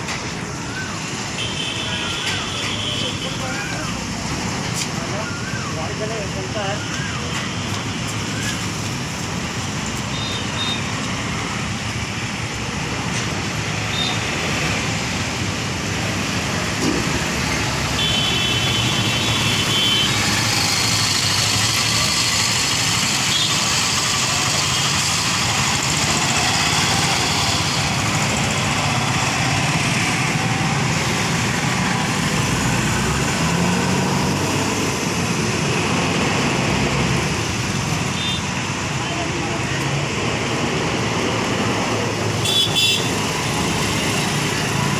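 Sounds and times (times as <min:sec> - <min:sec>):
road traffic noise: 0:00.0 - 0:44.9.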